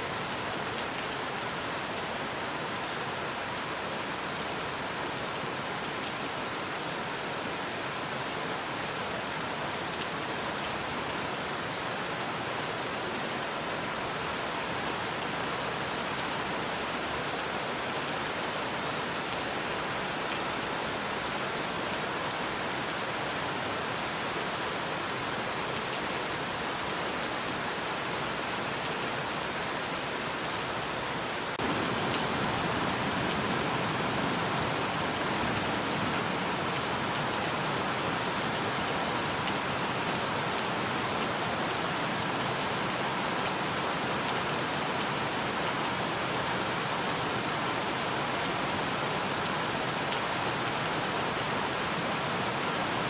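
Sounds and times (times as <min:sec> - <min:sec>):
steady dense rainfall: 0:00.0 - 0:53.0.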